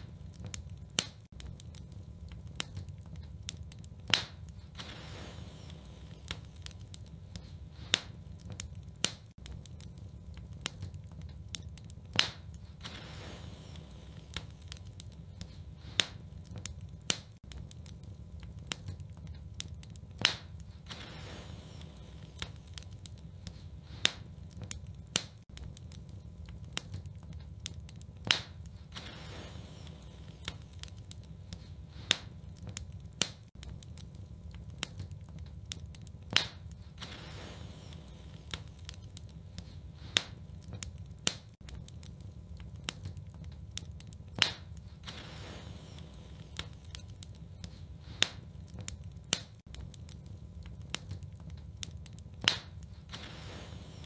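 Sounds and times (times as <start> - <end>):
fire pops and snaps: 0.0 - 54.0
low rumble of flames: 0.0 - 54.0.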